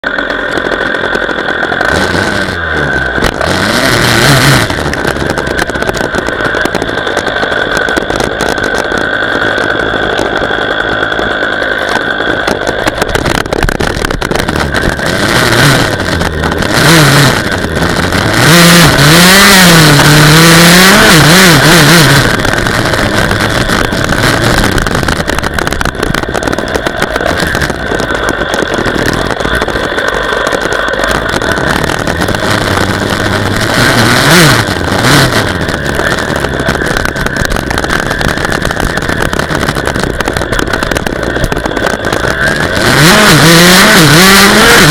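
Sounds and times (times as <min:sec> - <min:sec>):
dirt bike engine revving: 0:00.0 - 0:07.9, 0:13.2 - 0:44.9.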